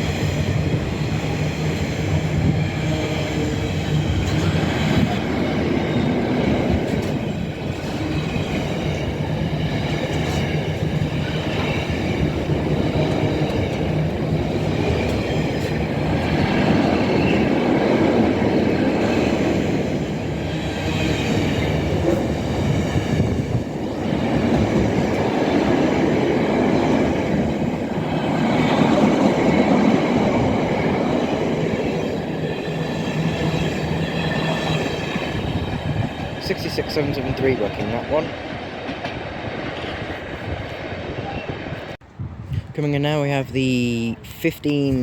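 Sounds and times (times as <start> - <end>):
wheels squealing on rails: 0.0 - 26.1, 26.8 - 37.4
freight train wagons rumbling: 0.0 - 45.0.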